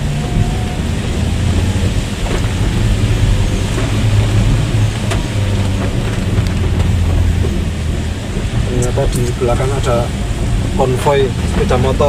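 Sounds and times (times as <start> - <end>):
engine and road drone: 0.0 - 12.0
rain on a car: 0.0 - 12.0.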